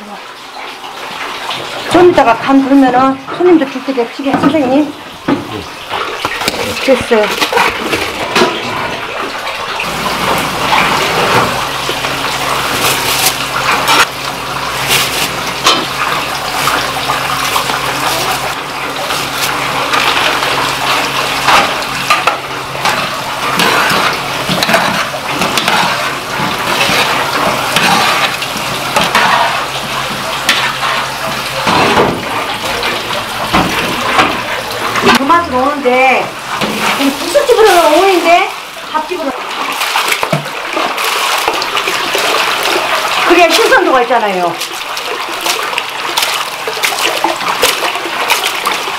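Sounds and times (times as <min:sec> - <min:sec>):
water boiling in a pot: 0:00.0 - 0:48.9.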